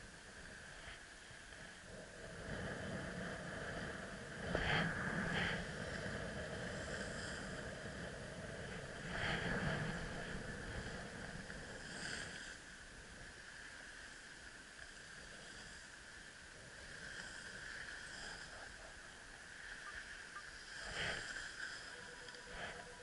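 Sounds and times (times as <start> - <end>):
skis sliding over packed snow: 0.0 - 23.0.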